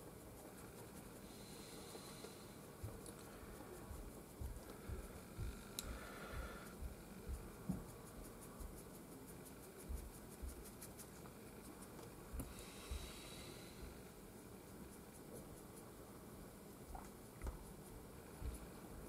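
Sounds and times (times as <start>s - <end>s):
paintbrush scratching strokes: 0.0s - 19.0s.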